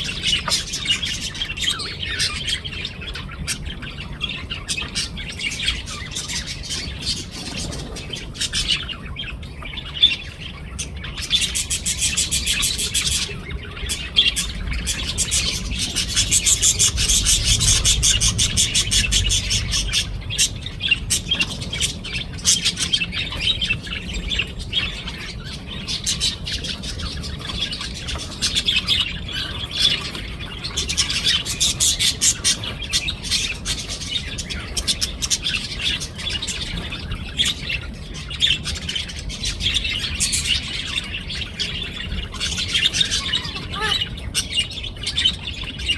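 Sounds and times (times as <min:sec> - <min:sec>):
budgerigars chattering and warbling: 0:00.0 - 0:45.9.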